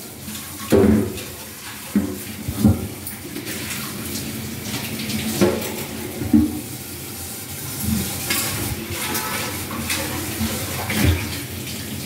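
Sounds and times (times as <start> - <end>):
thick gravy bubbling: 0.0 - 12.0.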